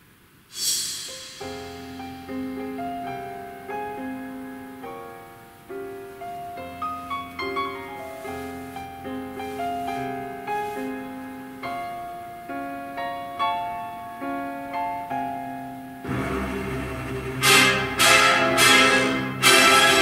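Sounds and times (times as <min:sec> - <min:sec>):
solo piano music: 0:01.0 - 0:20.0.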